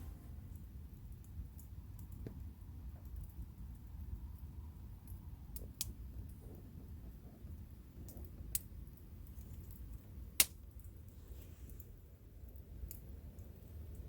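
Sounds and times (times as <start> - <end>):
campfire crackling: 0.0 - 14.0
fire pops: 0.0 - 14.0
low steady rumble: 0.0 - 14.0.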